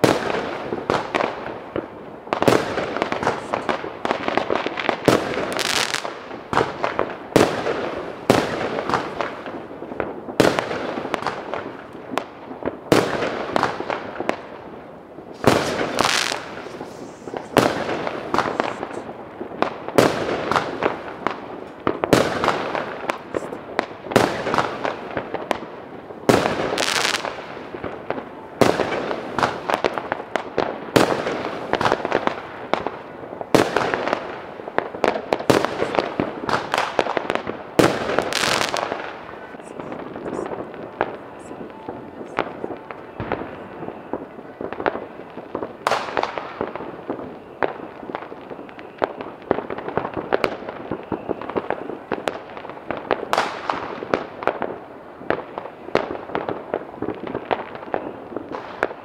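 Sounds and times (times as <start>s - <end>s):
fireworks and firecrackers banging: 0.0s - 59.0s.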